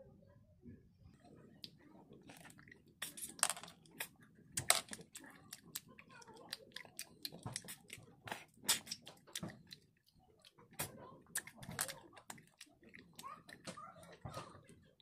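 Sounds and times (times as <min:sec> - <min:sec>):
mouth clicks and smacks eating: 0:01.5 - 0:14.8.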